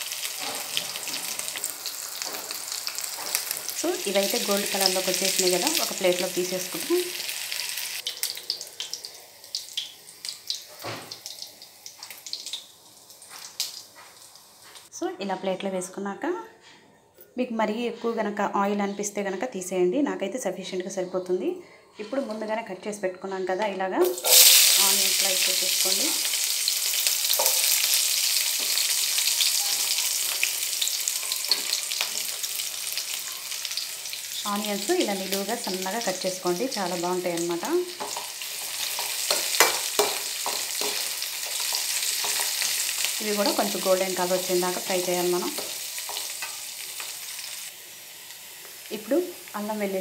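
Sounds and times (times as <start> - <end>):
hot oil sizzling: 0.0 - 14.9, 24.0 - 50.0.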